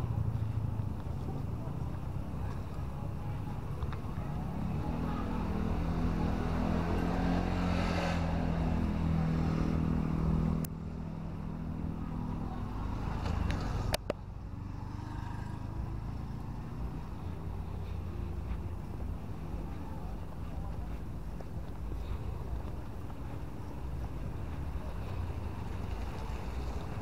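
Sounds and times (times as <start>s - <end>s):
background noise: 0.0s - 27.0s
vehicle engine humming: 0.0s - 27.0s.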